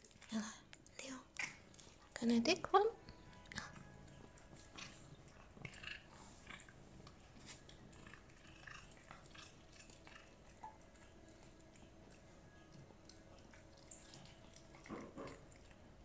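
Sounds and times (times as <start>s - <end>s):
cat chewing and smacking: 0.0s - 2.1s, 3.0s - 16.0s.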